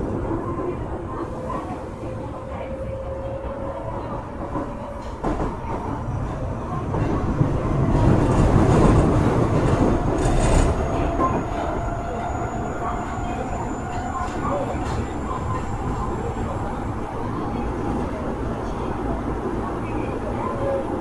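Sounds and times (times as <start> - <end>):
wheels rumbling on rail: 0.0 - 21.0.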